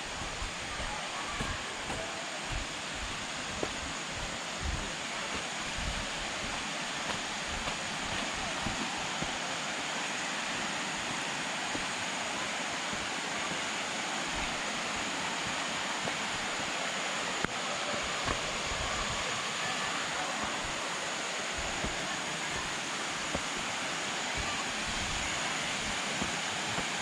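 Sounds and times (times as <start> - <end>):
waterfall rushing and splashing: 0.0 - 27.0.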